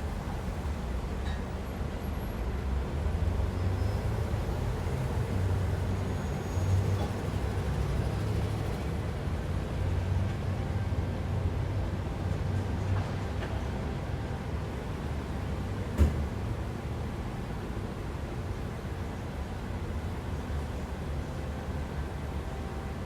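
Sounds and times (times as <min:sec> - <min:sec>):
traffic engines rumbling: 0:00.0 - 0:23.0.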